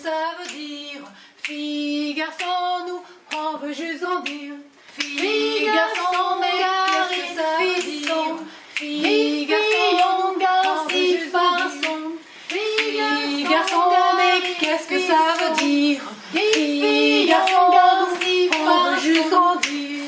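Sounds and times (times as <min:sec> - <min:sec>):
woman singing: 0:00.0 - 0:20.0
hand claps: 0:00.4 - 0:00.7, 0:01.4 - 0:01.7, 0:02.3 - 0:02.7, 0:03.3 - 0:03.5, 0:04.2 - 0:20.0.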